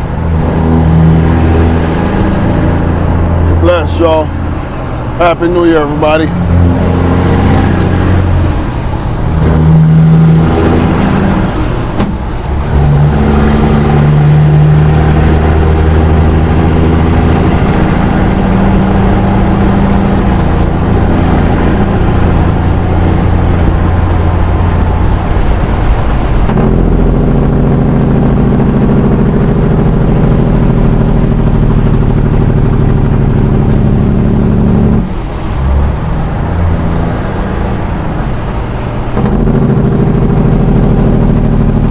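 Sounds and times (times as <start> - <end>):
truck diesel engine shifting gears: 0.0 - 41.9.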